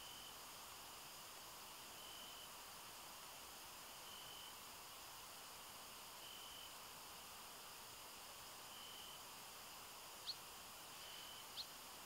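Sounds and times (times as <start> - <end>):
faint even hiss: 0.0 - 12.0
high-pitched insect chirp: 0.0 - 12.0.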